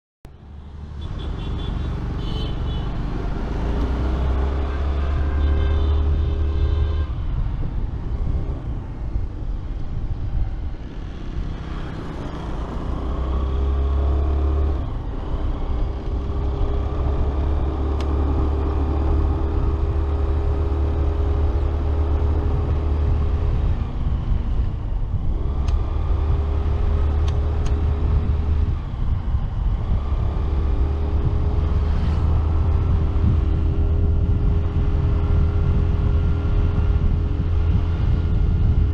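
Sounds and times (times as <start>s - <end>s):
wind rumble on microphone: 2.0s - 38.9s.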